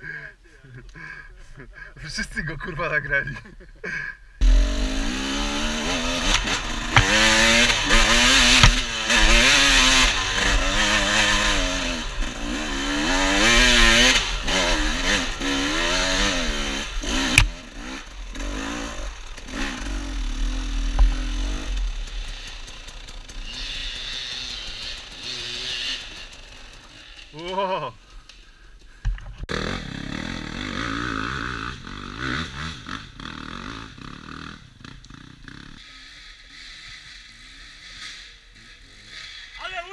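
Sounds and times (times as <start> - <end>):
dirt bike engine revving: 4.4 - 27.8, 29.5 - 39.6.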